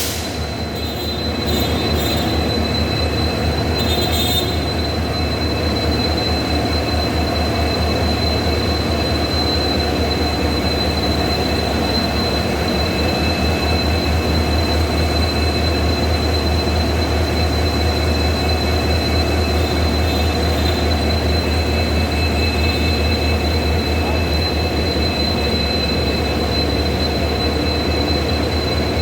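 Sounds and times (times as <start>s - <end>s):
locomotive engine drone: 0.0s - 29.0s.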